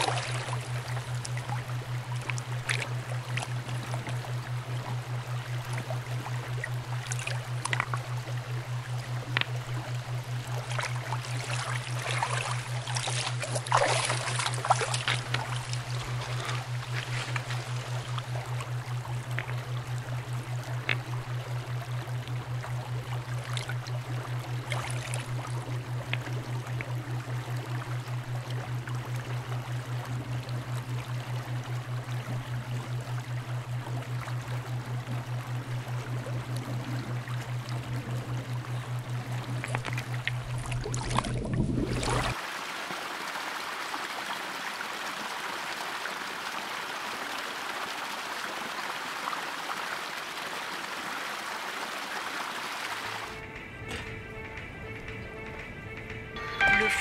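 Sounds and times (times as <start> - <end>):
low pulsing drone: 0.0 - 42.4, 53.1 - 57.0
shallow river water flowing: 0.0 - 55.9.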